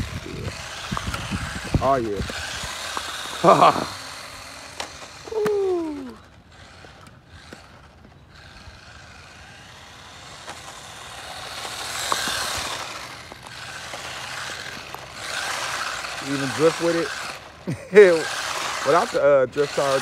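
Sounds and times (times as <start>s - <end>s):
rc car motor and tyre noise: 0.0s - 20.0s.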